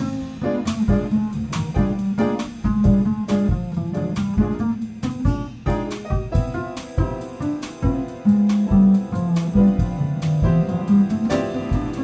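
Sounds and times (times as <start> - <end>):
drum kit and cymbals: 0.0 - 12.0
piano chords: 0.0 - 12.0
plucked double bass: 0.0 - 12.0.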